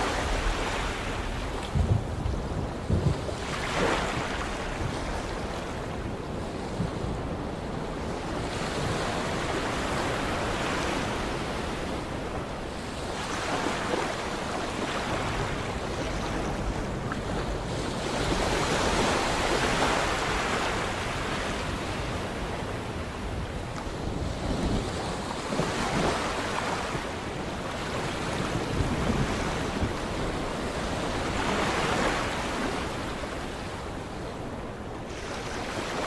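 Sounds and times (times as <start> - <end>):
sea waves washing in: 0.0 - 36.0.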